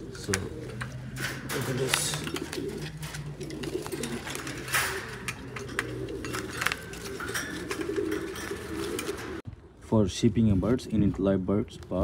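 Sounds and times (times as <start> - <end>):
pigeons cooing: 0.0 - 9.8.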